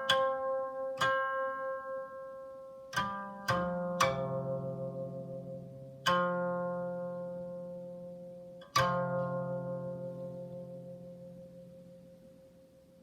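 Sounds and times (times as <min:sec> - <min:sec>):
plucked zither chords: 0:00.0 - 0:13.0.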